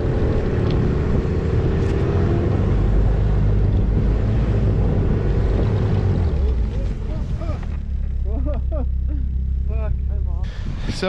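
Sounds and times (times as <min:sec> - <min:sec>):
wind buffeting microphone: 0:00.0 - 0:07.6, 0:09.7 - 0:11.0
snowmobile engine running: 0:00.0 - 0:11.0.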